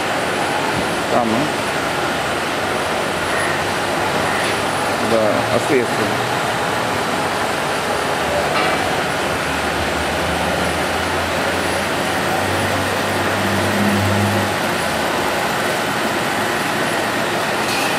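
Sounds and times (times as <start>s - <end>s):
workshop low hum: 0.0s - 17.9s.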